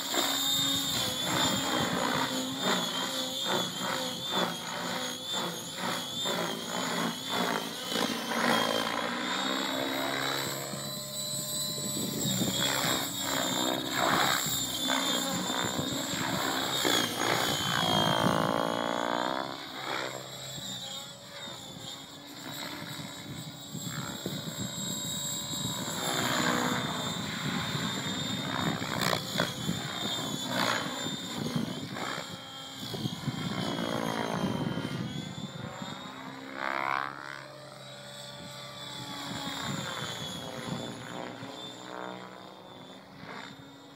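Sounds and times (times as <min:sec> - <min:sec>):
motor and gears whining: 0:00.0 - 0:43.9
rc helicopter rotor buzzing: 0:00.0 - 0:43.9.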